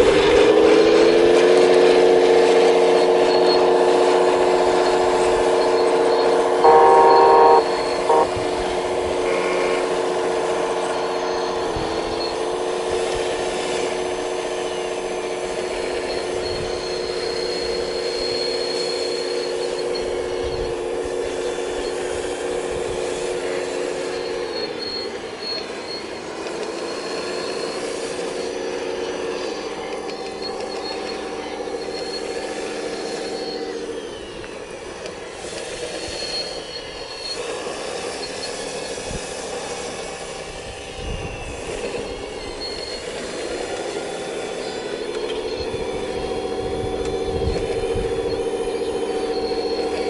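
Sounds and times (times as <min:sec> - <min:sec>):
heavy diesel engine running: 0:00.0 - 0:50.0
high hydraulic whine: 0:00.0 - 0:50.0.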